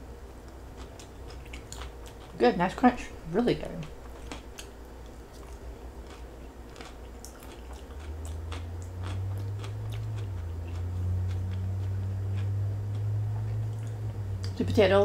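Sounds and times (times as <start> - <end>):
low steady hum: 0.0 - 15.0
chewing crunchy vegetables: 0.4 - 2.5, 3.6 - 14.6.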